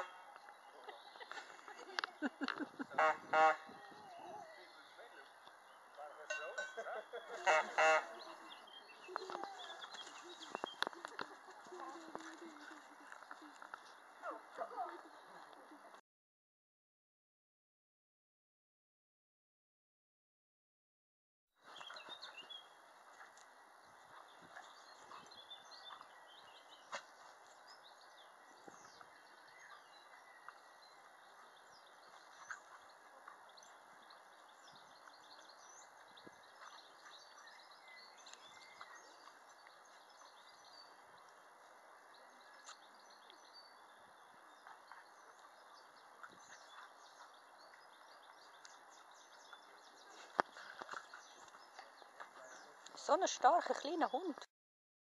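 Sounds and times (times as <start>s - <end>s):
steady outdoor hiss: 0.0s - 16.0s, 21.7s - 54.1s.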